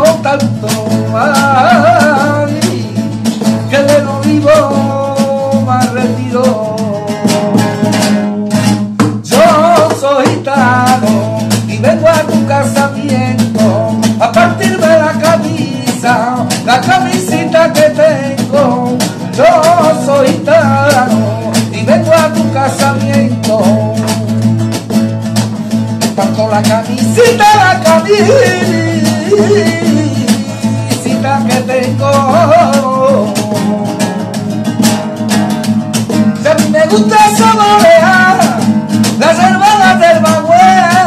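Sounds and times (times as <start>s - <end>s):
man singing flamenco: 0.0s - 41.0s
strummed nylon-string guitar: 0.0s - 41.0s.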